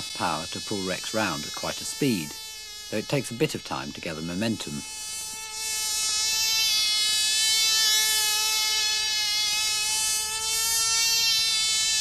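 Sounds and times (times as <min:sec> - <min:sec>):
model aeroplane engine buzzing: 0:00.0 - 0:12.0.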